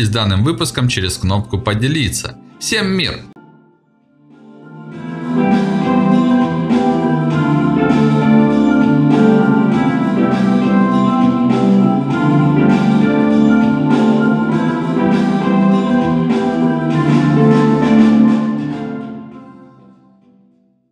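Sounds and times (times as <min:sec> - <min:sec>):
background music with steady beat: 0:00.0 - 0:19.9.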